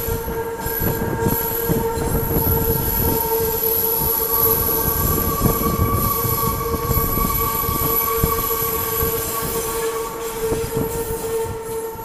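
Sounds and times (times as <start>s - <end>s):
train rumble: 0.0s - 12.0s
train wheel squeal: 0.0s - 12.0s.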